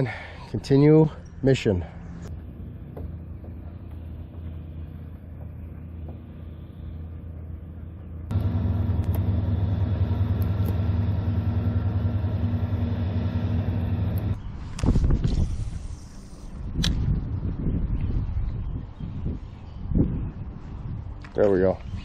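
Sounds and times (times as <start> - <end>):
mechanical hum with low drone: 0.6 - 22.0.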